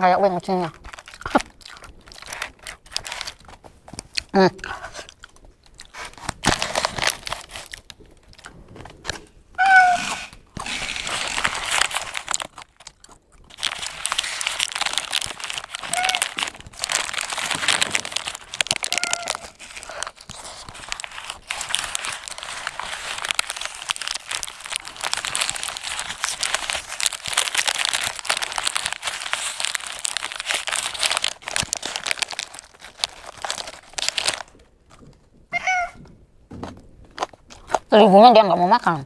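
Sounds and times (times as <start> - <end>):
paper wrapper crinkling: 0.0 - 35.9.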